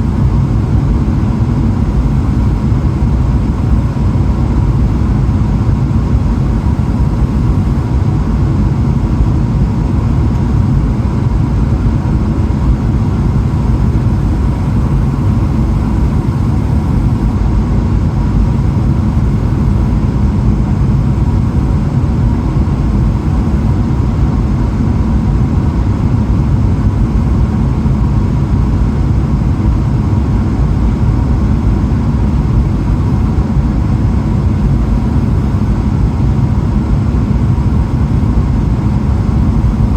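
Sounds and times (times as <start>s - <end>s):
airliner cabin roar: 0.0s - 39.9s
faint steady whine: 0.0s - 39.9s.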